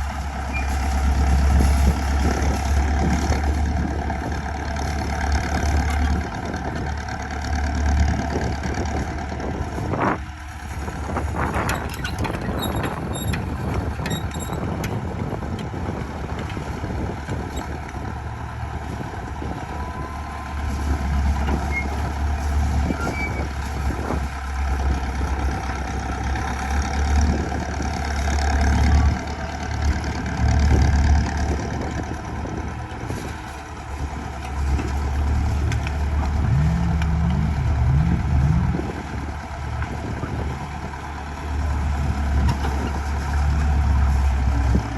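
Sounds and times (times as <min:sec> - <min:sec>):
heavy vehicle engine rumbling: 0:00.0 - 0:44.9.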